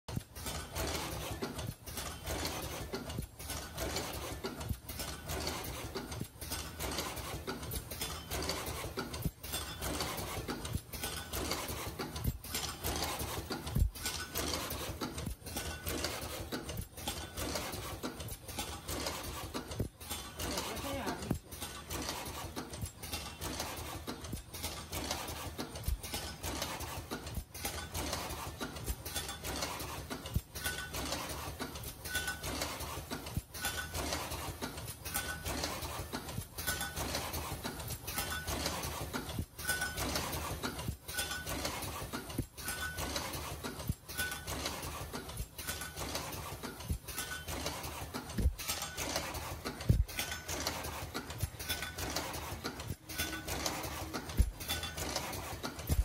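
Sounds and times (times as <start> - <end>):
machine mechanical clatter: 0.1 - 56.0.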